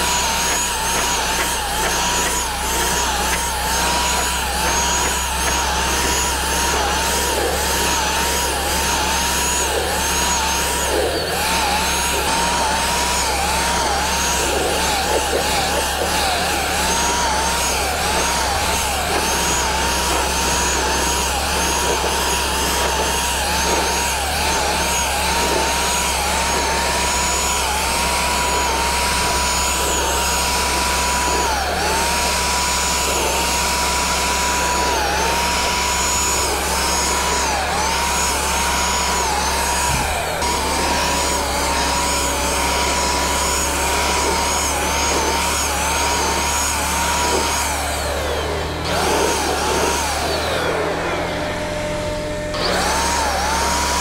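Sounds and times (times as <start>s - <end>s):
paint sprayer motor whining: 0.0s - 54.0s.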